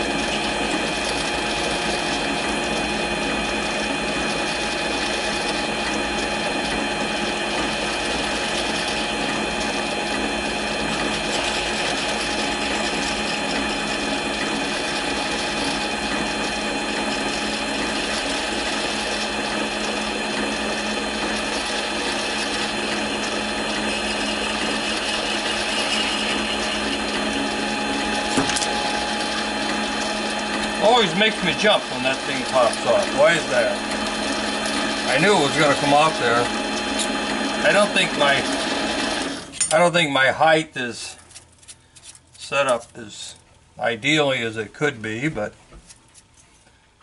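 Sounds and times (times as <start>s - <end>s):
lathe whirring with gear whine: 0.0s - 40.6s.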